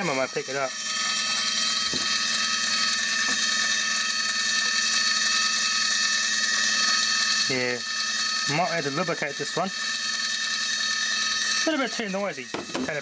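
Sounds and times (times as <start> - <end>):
small motor whirring: 0.0 - 13.0.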